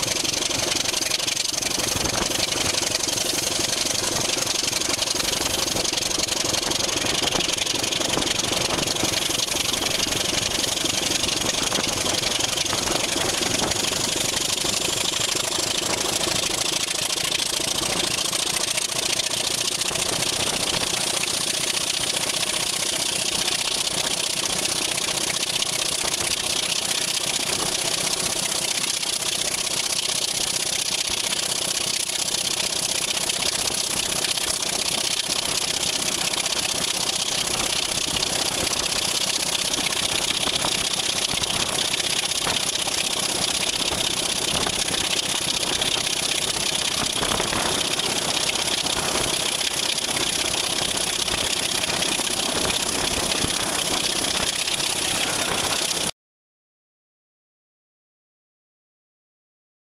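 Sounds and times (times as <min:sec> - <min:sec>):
locomotive diesel engine: 0:00.0 - 0:56.1.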